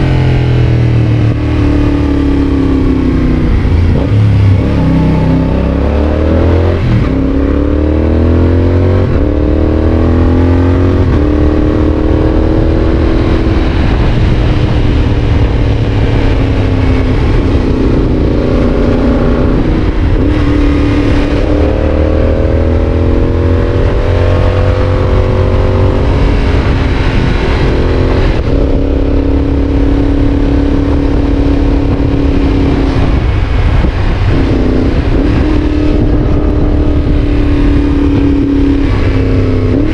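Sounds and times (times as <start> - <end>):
motorcycle engine revving with upshifts: 0.0 - 39.9.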